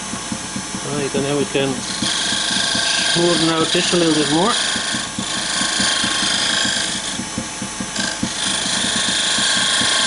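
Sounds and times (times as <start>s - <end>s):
wood lathe running: 0.8s - 10.0s
turning tool scraping wood: 1.0s - 10.0s.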